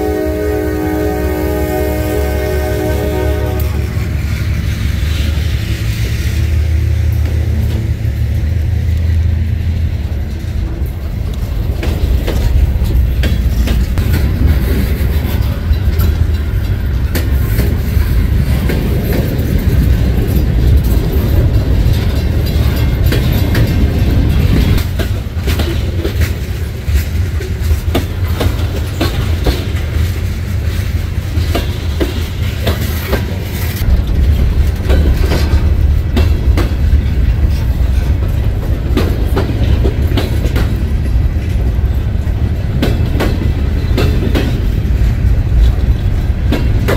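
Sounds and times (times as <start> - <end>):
freight train rumble: 0.0 - 46.9
train wheels clicking over rail joints: 0.0 - 46.9.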